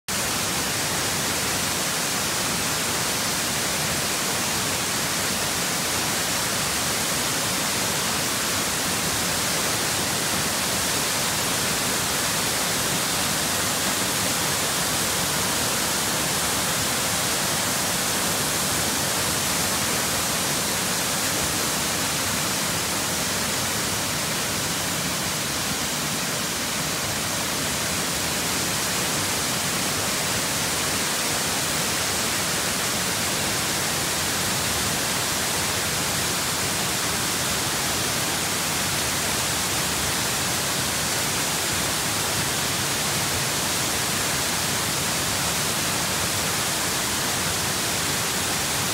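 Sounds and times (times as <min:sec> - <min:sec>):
waterfall rushing: 0:00.1 - 0:48.9.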